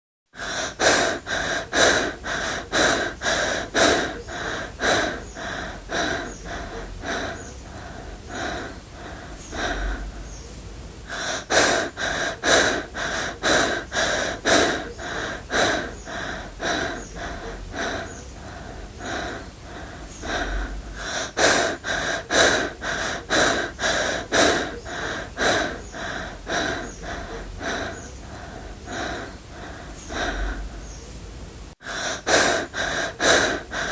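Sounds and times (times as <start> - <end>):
person panting: 0.4 - 10.5, 11.1 - 33.9.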